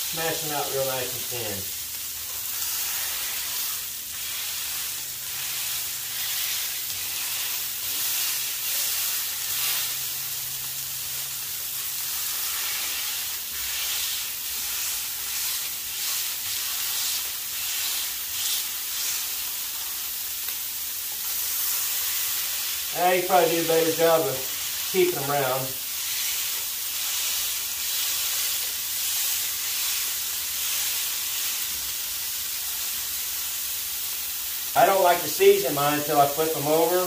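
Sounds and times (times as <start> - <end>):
meat sizzling on a griddle: 0.0 - 37.0.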